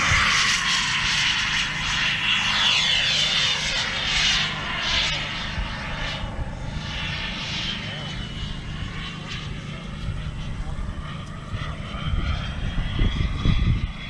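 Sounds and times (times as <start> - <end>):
model jet turbine whining past: 0.0 - 14.0.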